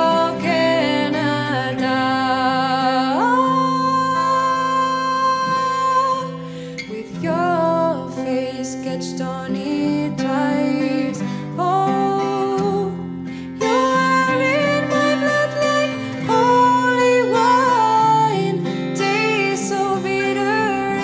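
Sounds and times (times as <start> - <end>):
acoustic guitar: 0.0 - 21.0
woman singing a slow ballad: 0.0 - 21.0.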